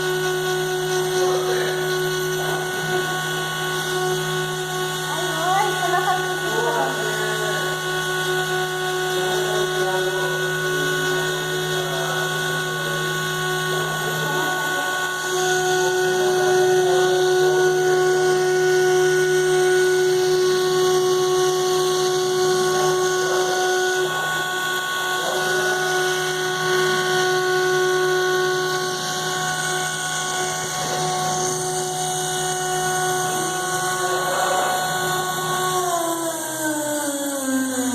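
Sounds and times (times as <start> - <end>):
router spindle whining while cutting: 0.0 - 37.9.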